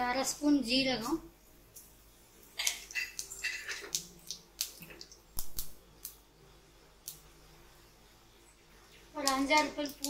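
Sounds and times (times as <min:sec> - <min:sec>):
spices crackling in hot oil: 0:00.2 - 0:07.8, 0:08.4 - 0:10.0.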